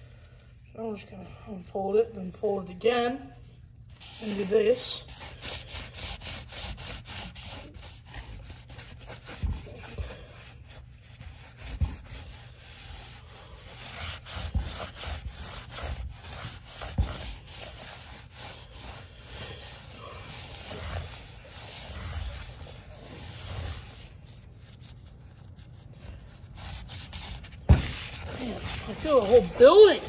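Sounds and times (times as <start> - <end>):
rag rubbing rubber tire: 4.0 - 30.0.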